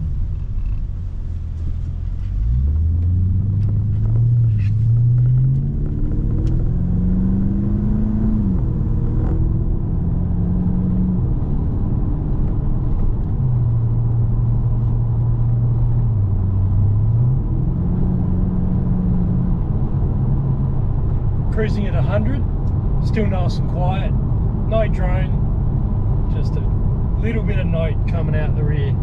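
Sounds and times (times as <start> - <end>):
car engine accelerating: 0.0 - 29.0
road noise rumble: 0.0 - 29.0.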